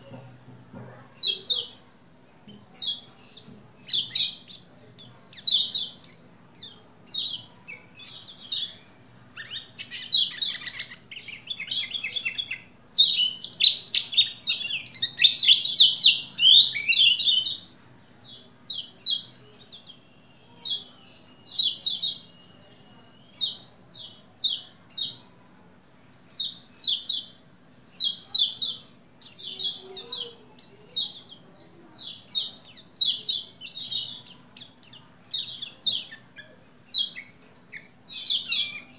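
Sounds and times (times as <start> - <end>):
bird chirping and singing: 0.0 - 25.3, 26.3 - 38.9.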